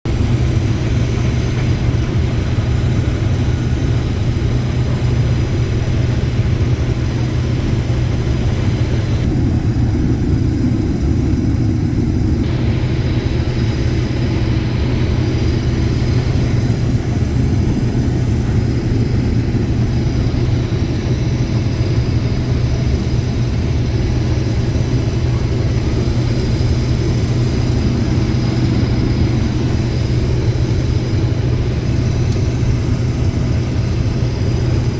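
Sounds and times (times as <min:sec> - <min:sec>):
farm machinery engine drone: 0:00.0 - 0:34.9.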